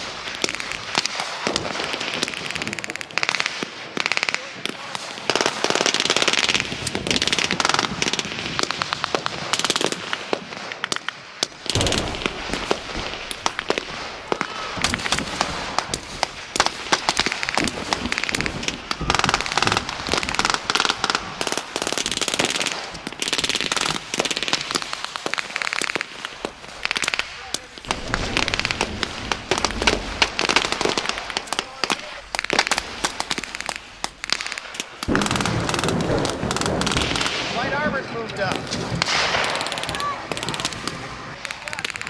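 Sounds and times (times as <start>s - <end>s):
blank gunfire crackle: 0.0s - 42.0s.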